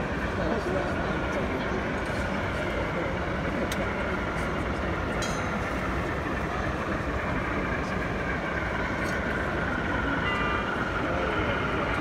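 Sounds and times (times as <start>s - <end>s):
crowd hubbub: 0.0s - 12.0s
faint steady whine: 0.0s - 12.0s.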